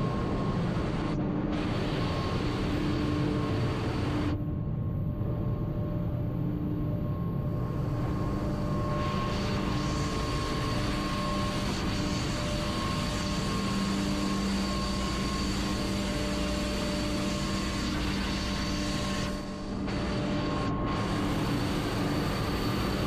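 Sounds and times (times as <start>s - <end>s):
engine-room machinery drone: 0.0s - 23.0s.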